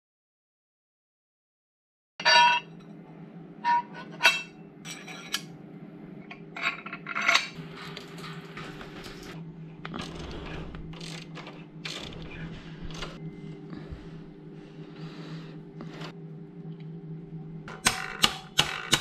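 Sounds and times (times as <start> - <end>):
steady low hum: 2.4 - 19.0.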